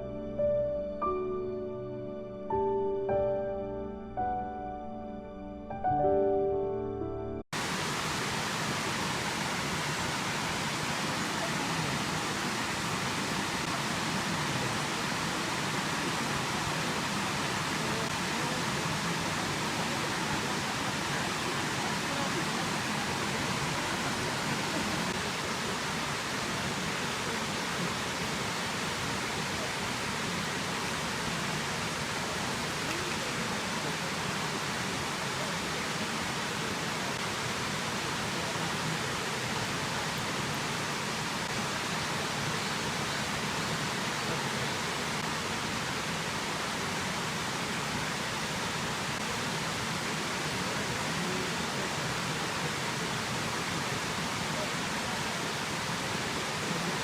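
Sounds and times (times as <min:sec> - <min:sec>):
waterfall rushing: 0:07.6 - 0:57.0.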